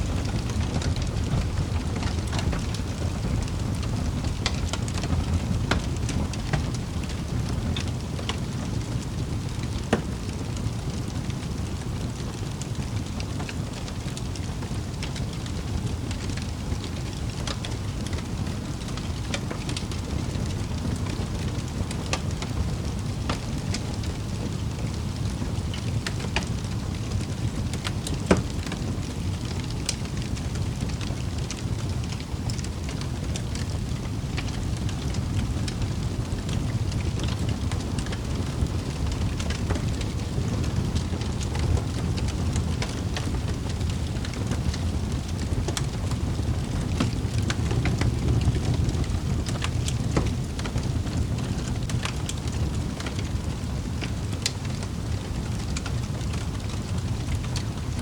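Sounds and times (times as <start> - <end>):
wood fire crackling in fireplace: 0.0 - 58.0.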